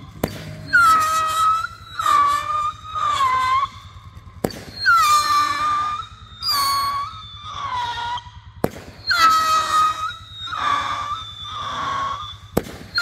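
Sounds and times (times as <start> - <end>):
firework bangs: 0.0 - 7.7, 8.6 - 13.0
whistling fireworks: 0.0 - 13.0.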